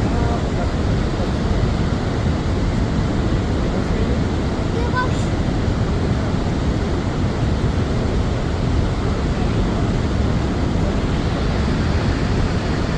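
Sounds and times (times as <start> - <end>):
waterfall roaring: 0.0 - 12.9.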